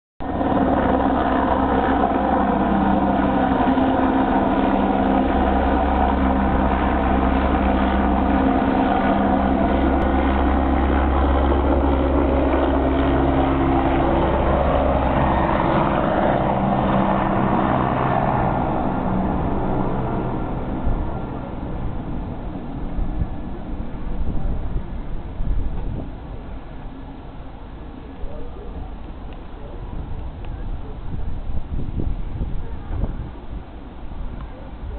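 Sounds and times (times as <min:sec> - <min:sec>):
helicopter rotors and engine droning: 0:00.2 - 0:34.9.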